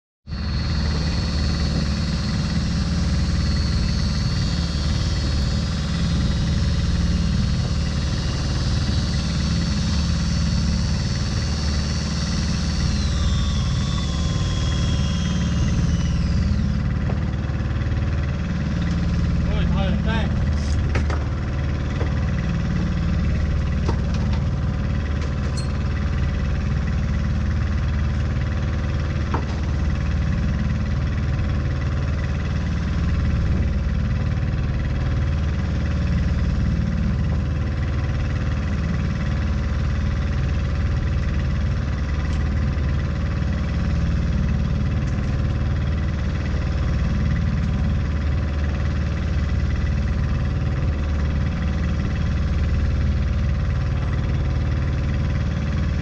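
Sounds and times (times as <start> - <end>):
boat engine droning: 0.3 - 56.0.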